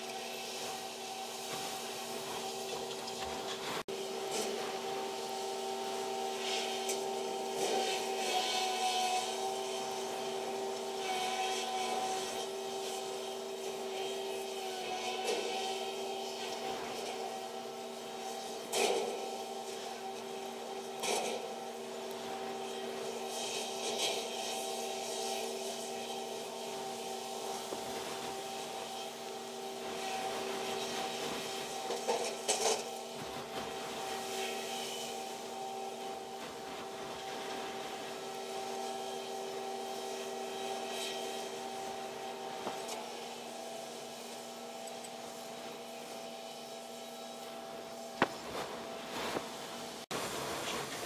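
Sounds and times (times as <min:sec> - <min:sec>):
crane machinery droning: 0:00.0 - 0:51.0.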